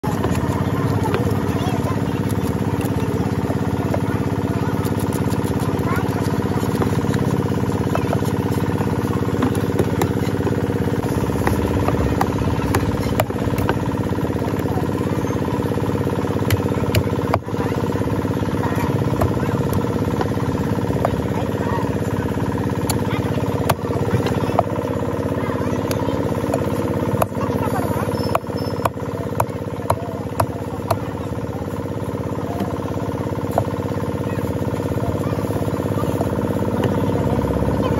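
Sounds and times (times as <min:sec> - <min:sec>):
knife scaling and chopping fish: 0:00.0 - 0:21.6, 0:25.8 - 0:37.4
small engine humming: 0:00.0 - 0:37.9.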